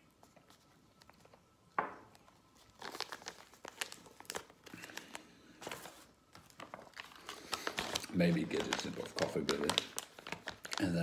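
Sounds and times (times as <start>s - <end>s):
plastic pouch crinkling: 2.1s - 11.0s.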